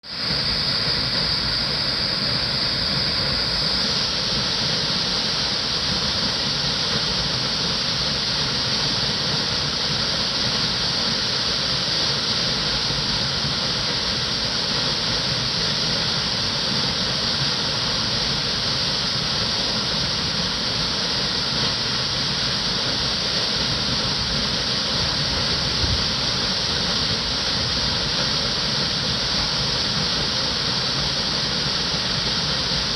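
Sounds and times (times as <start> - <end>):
waterfall roaring: 0.1 - 32.9.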